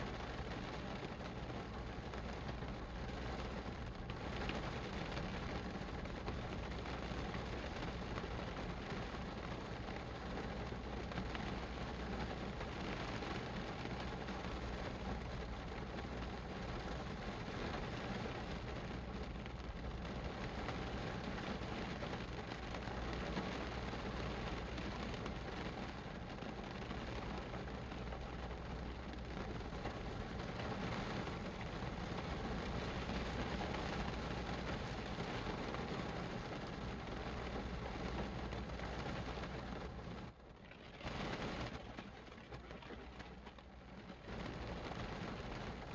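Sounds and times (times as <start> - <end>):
steady rain hiss: 0.0 - 45.9.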